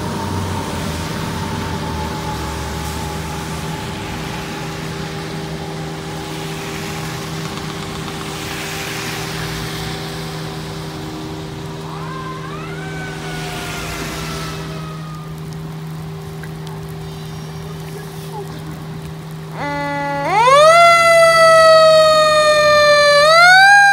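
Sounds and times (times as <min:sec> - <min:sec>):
engine hum: 0:00.0 - 0:23.9
fire engine siren wailing: 0:00.0 - 0:23.9
tyres hissing on wet road: 0:00.0 - 0:23.9.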